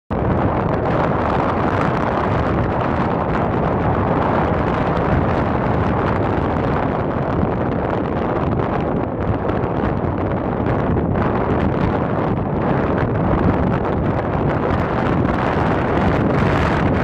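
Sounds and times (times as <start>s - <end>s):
strong wind on microphone: 0.1s - 17.0s.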